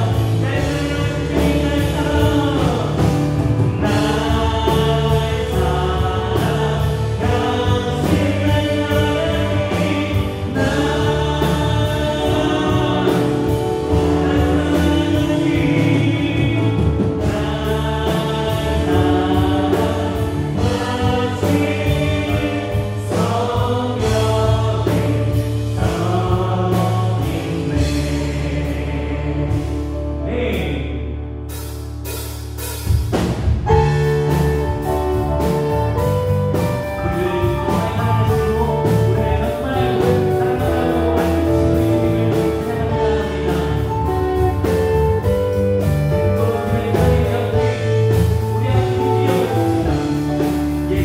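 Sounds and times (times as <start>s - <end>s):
voices singing: 0.0s - 31.1s, 33.7s - 51.0s
worship band playing: 0.0s - 51.0s.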